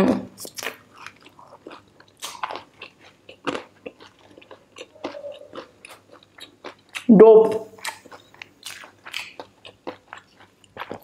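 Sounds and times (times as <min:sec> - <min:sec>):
chewing crunchy food: 0:00.4 - 0:11.0.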